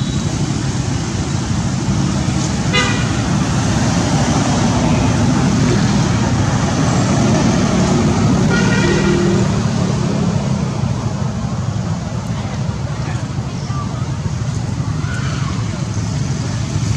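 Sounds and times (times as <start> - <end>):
traffic rumble: 0.0 - 16.9.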